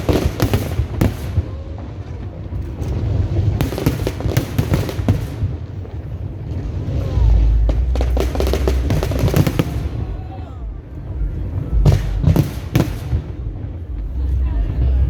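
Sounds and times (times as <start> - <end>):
deep rumble: 0.0 - 15.0
fireworks crackling: 0.0 - 15.0
heavy low firework boom: 0.0 - 15.0.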